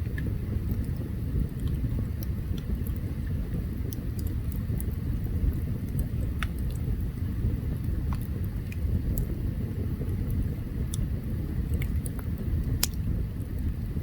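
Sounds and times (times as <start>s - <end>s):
burning wood crackles and pops: 0.0s - 14.0s
campfire low rumble: 0.0s - 14.0s.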